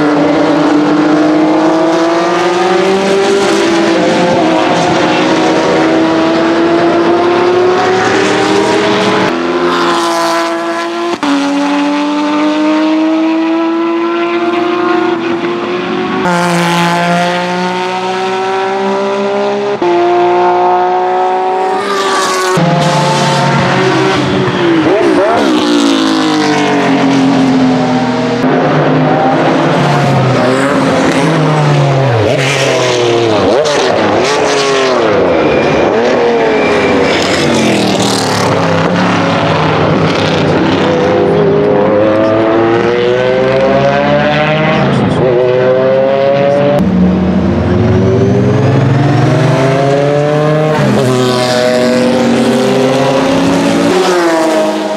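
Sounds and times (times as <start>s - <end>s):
engines downshifting with throttle blips: 0.0s - 54.9s
racing car engine accelerating: 0.0s - 54.9s.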